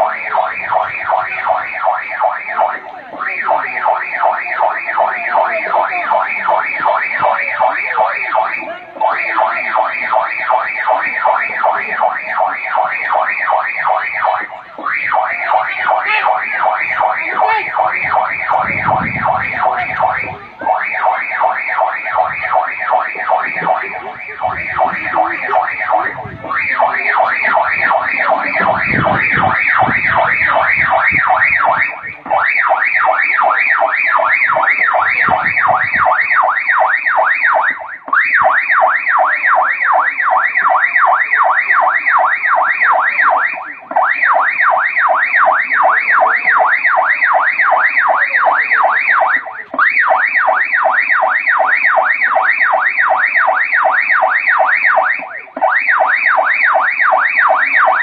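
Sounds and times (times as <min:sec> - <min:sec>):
electronic siren warbling: 0:00.0 - 0:58.0.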